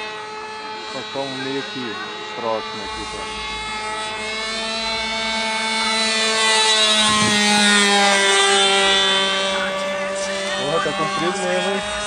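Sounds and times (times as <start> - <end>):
model airplane engine buzzing past: 0.0 - 12.0.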